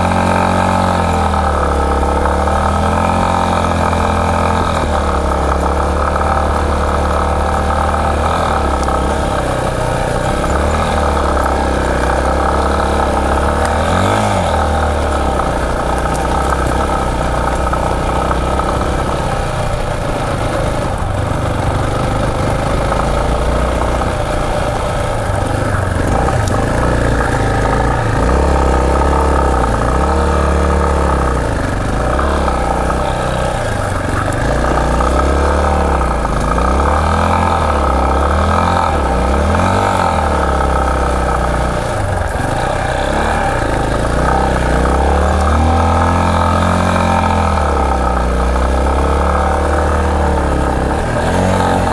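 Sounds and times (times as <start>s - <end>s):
motorcycle engine under load: 0.0s - 51.9s.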